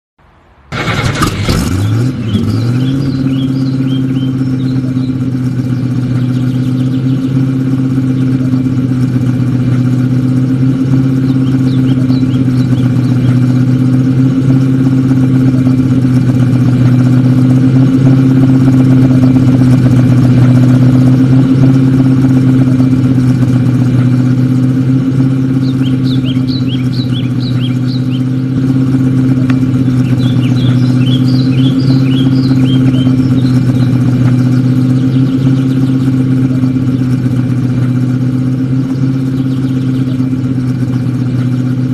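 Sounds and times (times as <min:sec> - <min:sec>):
vehicle engine with loud exhaust: 0:00.2 - 0:41.9.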